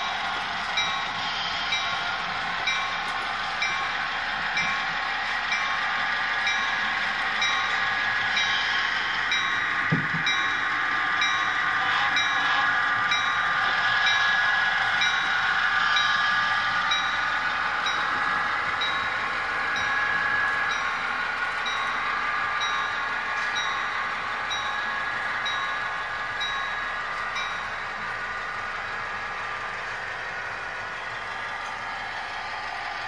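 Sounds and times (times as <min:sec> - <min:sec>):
locomotive bell ringing: 0:00.0 - 0:31.9
diesel locomotive engine running: 0:00.0 - 0:33.0.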